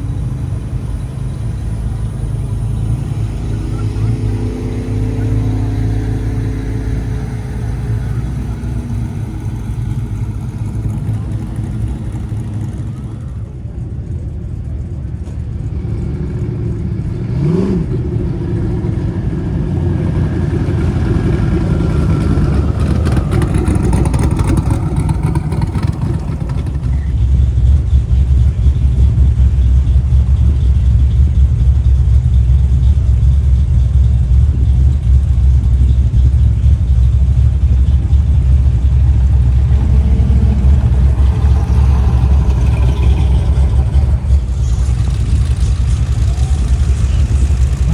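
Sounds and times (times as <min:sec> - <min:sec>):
engine revving: 0:00.0 - 0:13.4, 0:16.1 - 0:32.3, 0:36.6 - 0:47.9
car engines driving past: 0:00.0 - 0:47.9
deep engine rumble: 0:00.0 - 0:47.9.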